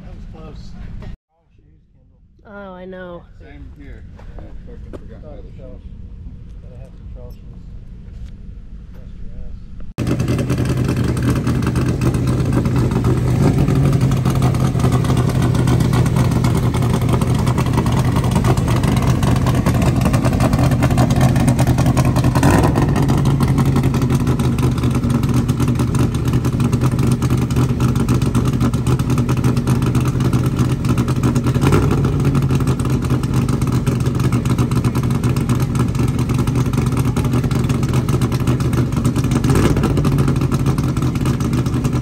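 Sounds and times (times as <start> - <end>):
engine running low and deep: 3.2 - 42.0.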